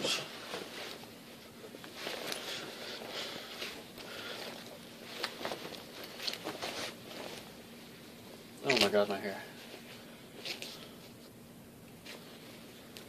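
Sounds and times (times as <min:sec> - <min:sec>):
fabric rustling: 0:00.0 - 0:11.4
faint steady hum: 0:00.0 - 0:13.0.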